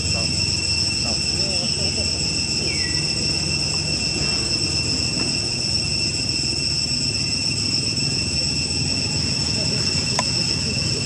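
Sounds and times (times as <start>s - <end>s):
insect chorus drone: 0.0s - 11.0s
falling chirp: 0.2s - 11.0s.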